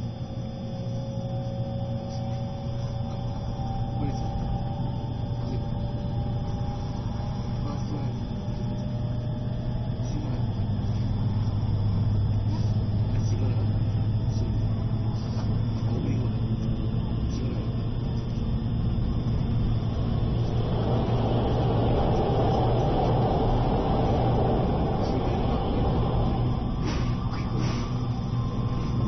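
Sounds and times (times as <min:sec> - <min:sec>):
train running on rails: 0:00.0 - 0:29.0.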